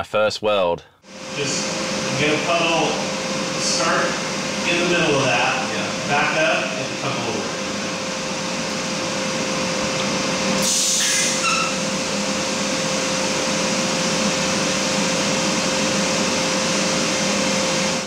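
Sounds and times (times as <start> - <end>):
welding arc hissing: 1.1 - 18.0.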